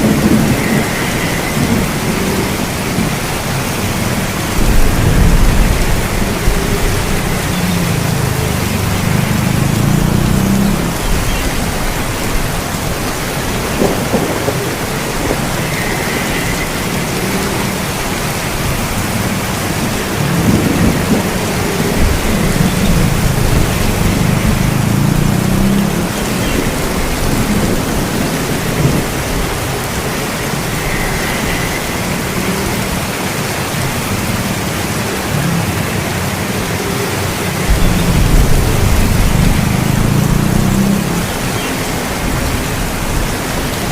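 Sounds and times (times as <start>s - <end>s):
low thunder rolls: 0.0s - 33.1s, 37.6s - 43.9s
steady rain: 0.0s - 43.9s.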